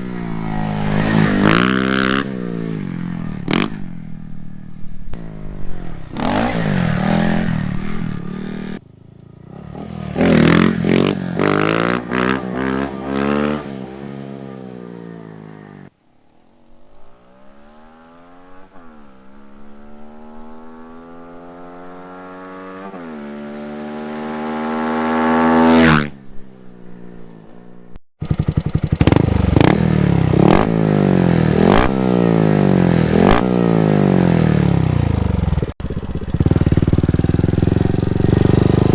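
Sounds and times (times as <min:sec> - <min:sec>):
motorcycle engine accelerating: 0:00.0 - 0:15.9, 0:17.0 - 0:38.9.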